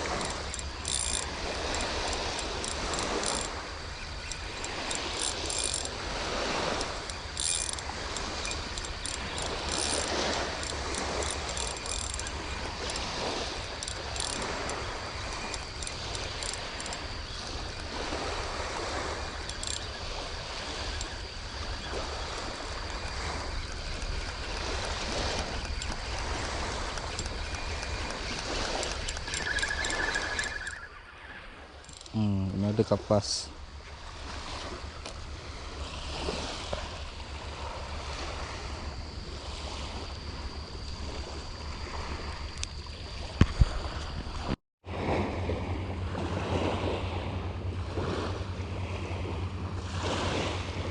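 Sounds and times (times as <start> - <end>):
small waves on sand beach: 0.0 - 50.9.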